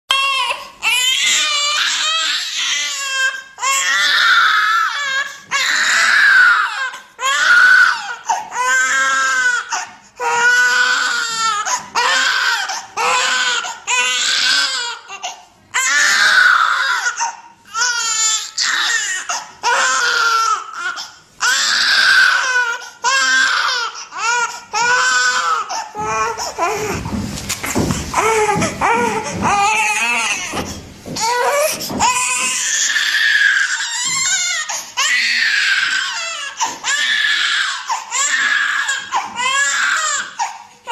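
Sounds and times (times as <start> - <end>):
infant crying: 0.1 - 27.1, 28.1 - 40.9.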